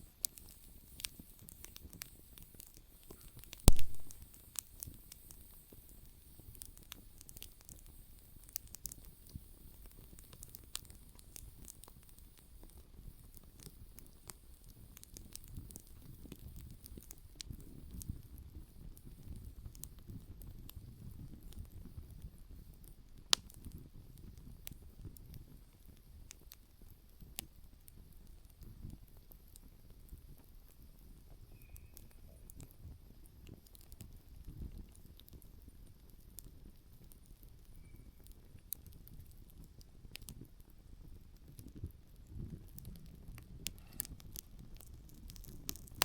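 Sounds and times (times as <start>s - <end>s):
campfire crackling: 0.0s - 46.0s.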